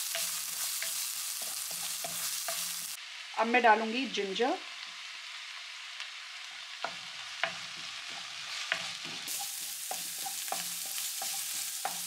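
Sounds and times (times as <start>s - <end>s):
ginger sizzling in hot oil: 0.0s - 12.0s.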